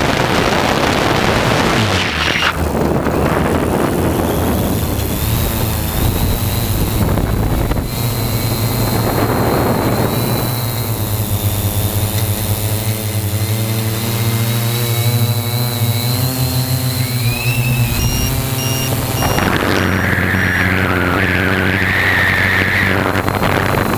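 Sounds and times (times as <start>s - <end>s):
drone motors humming and whining: 0.0s - 23.9s.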